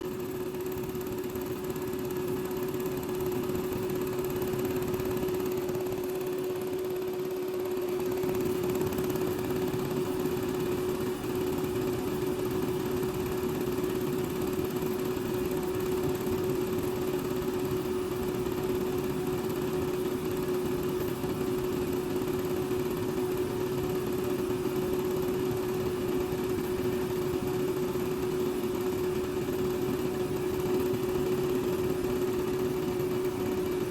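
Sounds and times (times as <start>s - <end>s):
small electric motor humming: 0.1s - 33.9s.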